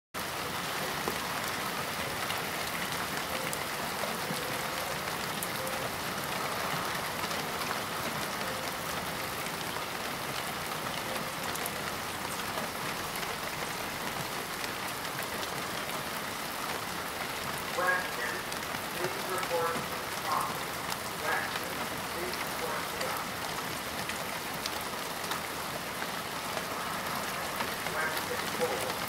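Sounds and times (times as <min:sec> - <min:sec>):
rain hissing on cars: 0:00.2 - 0:29.0.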